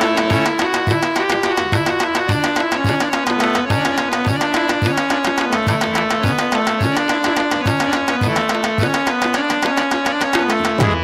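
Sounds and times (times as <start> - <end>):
fast percussion beat: 0.0 - 11.0
sustained melody notes: 0.0 - 11.0.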